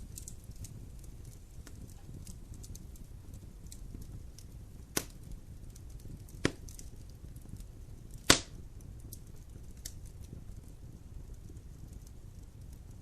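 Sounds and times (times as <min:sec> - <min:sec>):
fire crackling: 0:00.0 - 0:13.0
loud sharp fire pops: 0:00.0 - 0:13.0.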